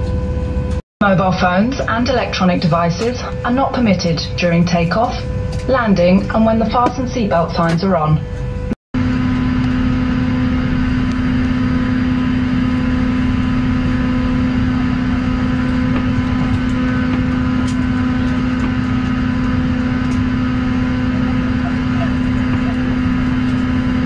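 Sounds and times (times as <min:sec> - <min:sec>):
jet engines idling in cabin: 0:00.0 - 0:24.0.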